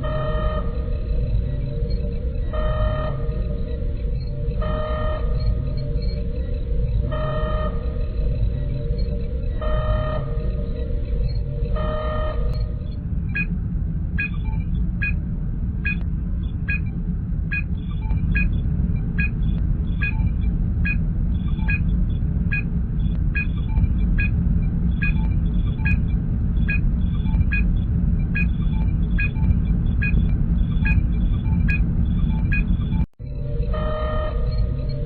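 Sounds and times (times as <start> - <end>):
low engine hum: 0.0 - 35.0.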